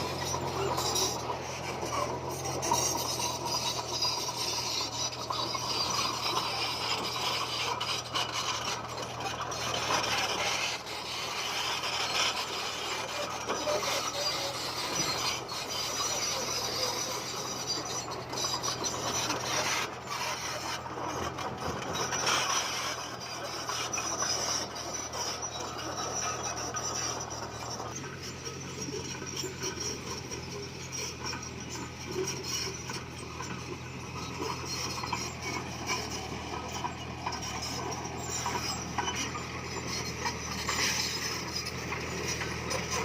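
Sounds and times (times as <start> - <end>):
bulldozer engine hum: 0.0 - 43.0
rock grinding and scraping: 0.0 - 43.0.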